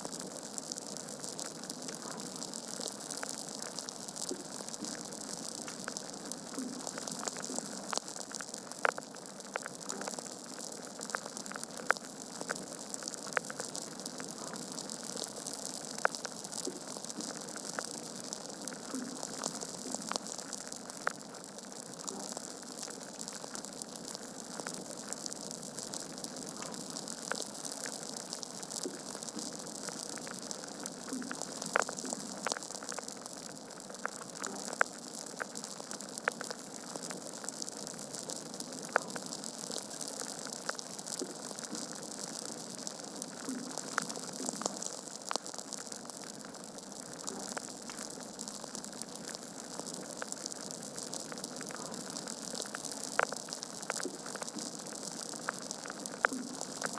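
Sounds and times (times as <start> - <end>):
wood fire crackling: 0.1 - 56.9.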